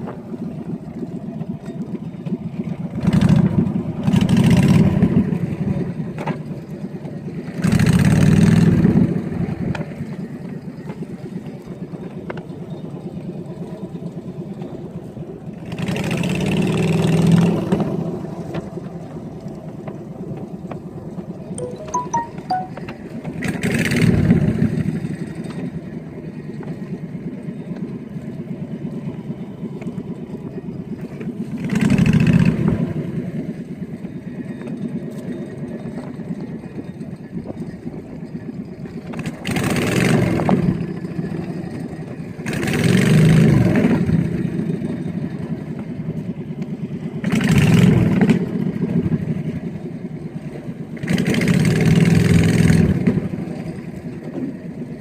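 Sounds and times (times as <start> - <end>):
small boat engine running: 0.0 - 21.6, 23.4 - 55.0.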